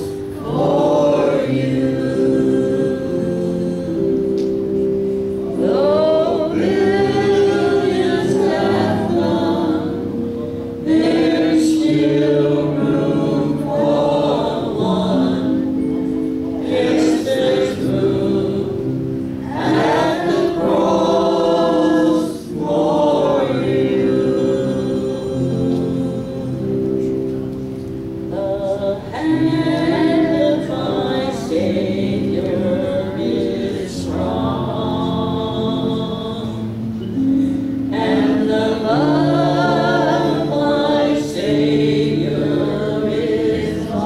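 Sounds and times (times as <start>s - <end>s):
congregation singing a hymn: 0.0s - 44.0s
sustained keyboard chords: 0.0s - 44.0s.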